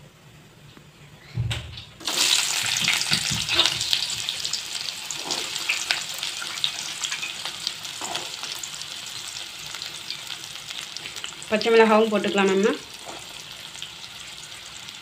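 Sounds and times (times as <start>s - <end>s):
shallots sizzling in hot oil: 2.0s - 15.0s.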